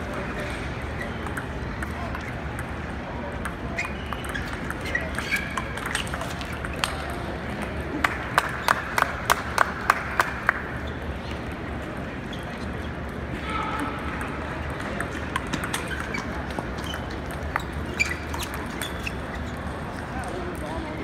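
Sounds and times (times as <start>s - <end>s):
table tennis balls clicking: 0.0s - 10.6s, 14.1s - 21.0s
murmur of voices: 0.0s - 21.0s.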